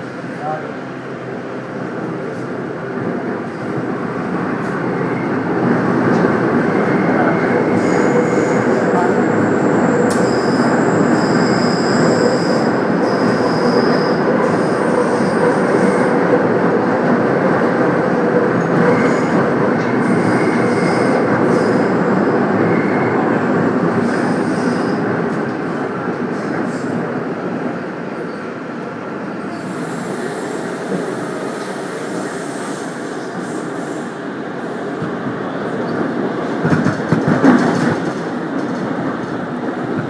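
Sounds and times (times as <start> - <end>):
train rumble inside carriage: 0.0 - 40.0.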